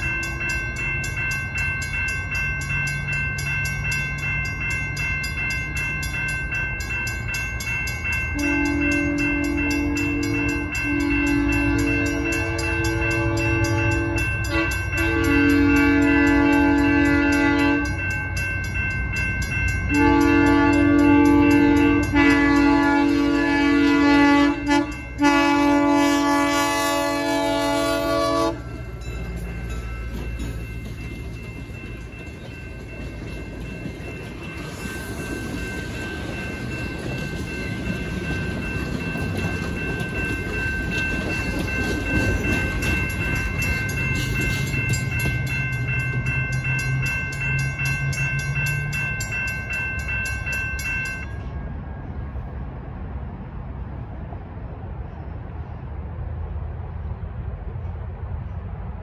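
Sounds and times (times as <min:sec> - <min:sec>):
crossing warning bell ringing: 0:00.0 - 0:52.8
train wheels rumbling on rails: 0:00.0 - 0:59.0.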